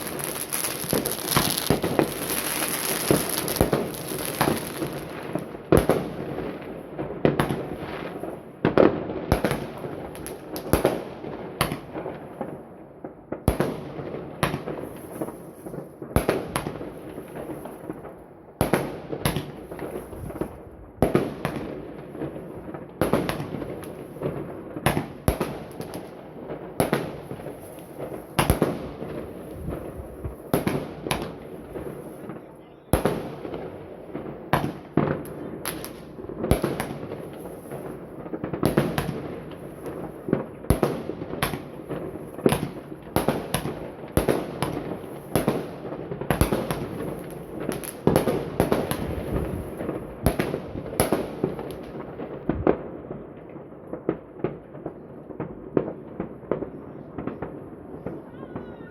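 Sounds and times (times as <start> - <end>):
fireworks bangs and pops: 0.0 - 58.9.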